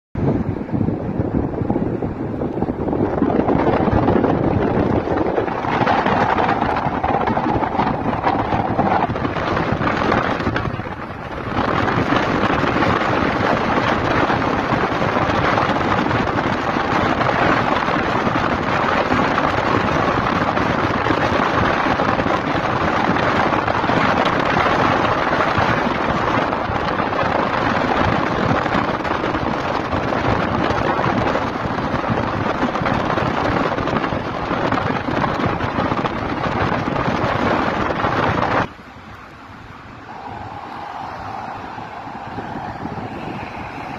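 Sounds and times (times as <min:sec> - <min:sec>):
car road noise: 0:00.2 - 0:43.9
wind rushing over microphone: 0:00.2 - 0:43.9.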